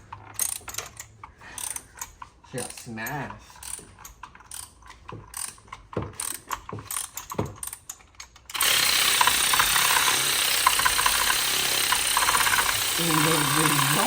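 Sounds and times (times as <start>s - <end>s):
hand ratchet clicking: 0.1s - 14.0s.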